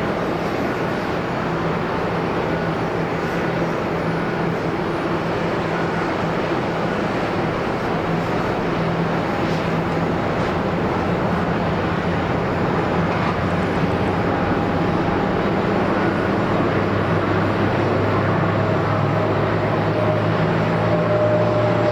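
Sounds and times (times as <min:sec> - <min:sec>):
jet engines on approach: 0:00.0 - 0:21.9.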